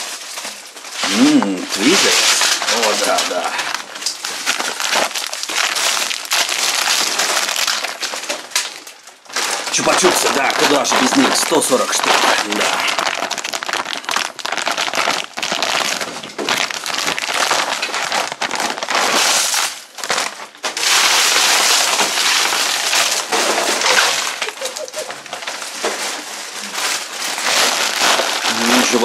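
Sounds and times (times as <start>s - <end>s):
plastic candy wrappers clattering: 0.0s - 29.0s.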